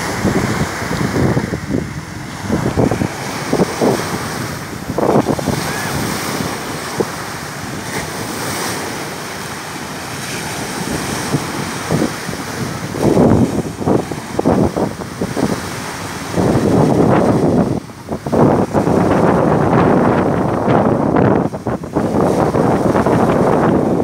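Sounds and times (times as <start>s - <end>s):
small waves washing onto beach: 0.0s - 24.0s
wind buffeting microphone: 0.0s - 24.0s.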